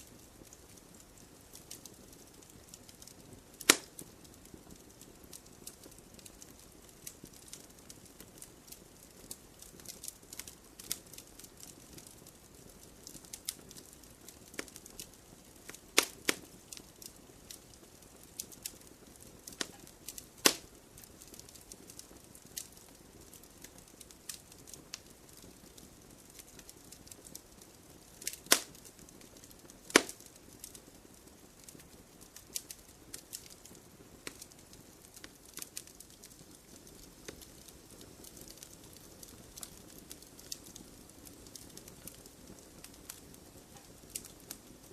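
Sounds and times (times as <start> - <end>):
campfire crackling and popping: 0.0 - 44.9
hiss of burning: 0.0 - 44.9.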